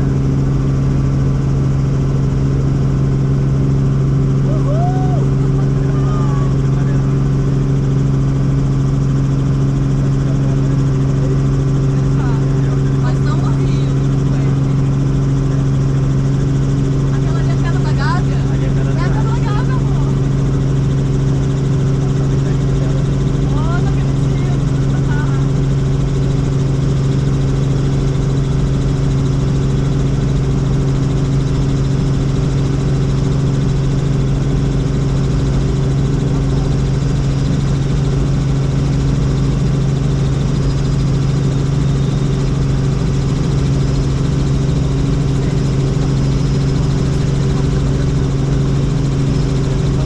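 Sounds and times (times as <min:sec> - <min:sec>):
helicopter drone: 0:00.0 - 0:50.0.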